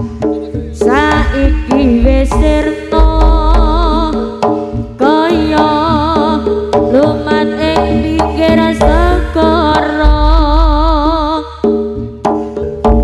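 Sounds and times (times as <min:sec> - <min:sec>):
hand drum strokes: 0:00.0 - 0:13.0.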